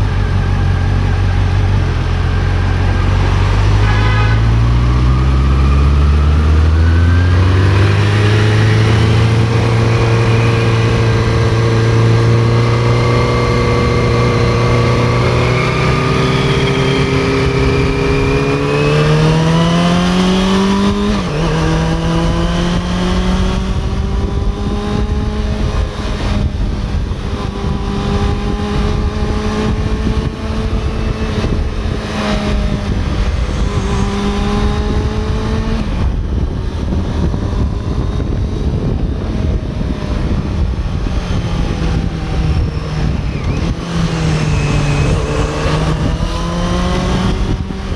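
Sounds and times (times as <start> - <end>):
motorcycle engine accelerating: 0.0 - 47.9
wind rush: 0.0 - 47.9.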